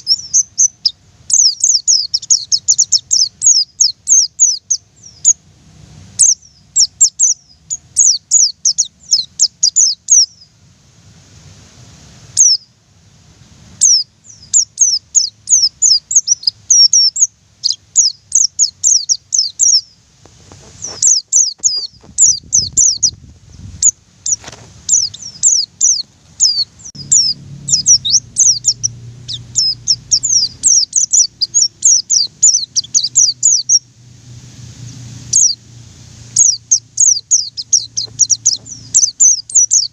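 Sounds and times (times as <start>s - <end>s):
bird singing high sharp chirps: 0.0s - 5.4s, 6.2s - 10.5s, 12.4s - 12.7s, 13.8s - 20.0s, 20.8s - 33.9s, 34.8s - 39.9s.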